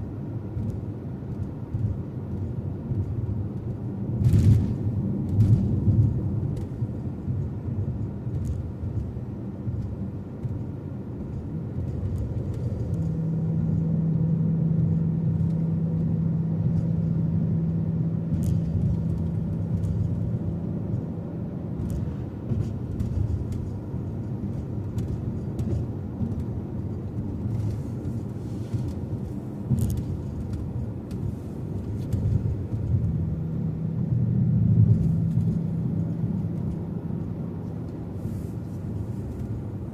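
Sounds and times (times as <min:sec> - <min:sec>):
car engine and road noise: 0:00.0 - 0:39.9
steady droning hum: 0:00.0 - 0:39.9.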